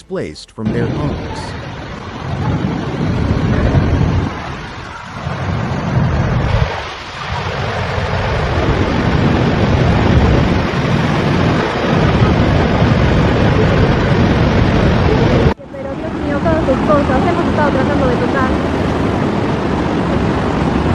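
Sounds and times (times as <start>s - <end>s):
floodwater rushing: 0.0s - 20.9s.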